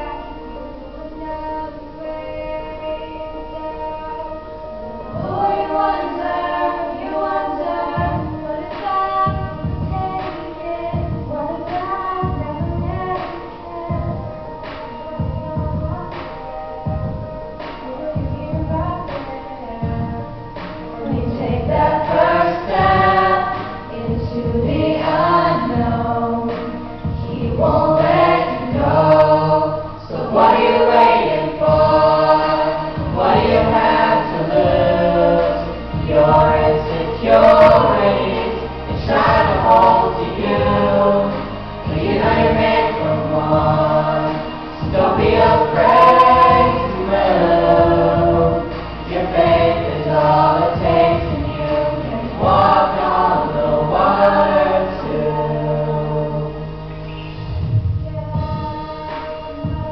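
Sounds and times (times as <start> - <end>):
vocal ensemble singing in harmony: 0.0 - 59.9.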